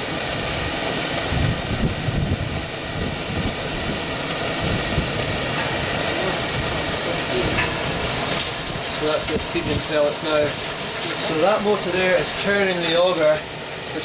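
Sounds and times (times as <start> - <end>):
boiler steady rushing noise: 0.0 - 14.0
low rumbling: 0.0 - 14.0.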